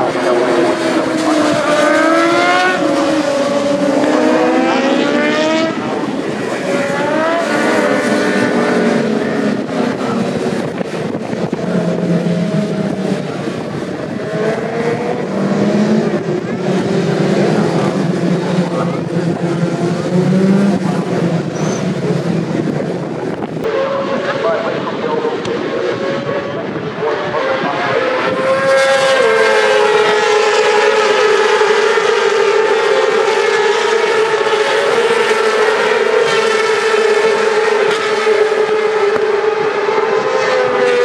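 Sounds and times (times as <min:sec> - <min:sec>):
racing motorbike engines accelerating: 0:00.0 - 0:41.0.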